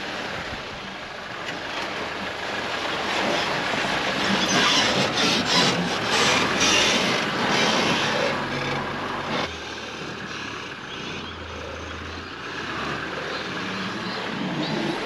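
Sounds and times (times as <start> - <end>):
tyres churning sand: 0.0 - 15.0
vehicle engine: 0.0 - 15.0.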